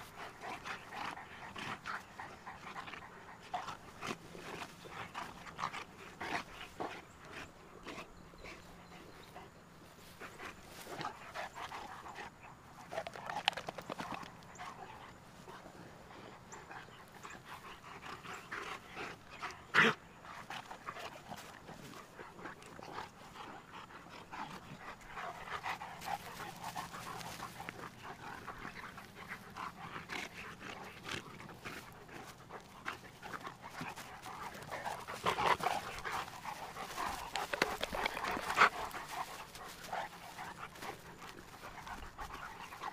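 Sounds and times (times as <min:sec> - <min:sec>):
dogs panting heavily: 0:00.0 - 0:42.9.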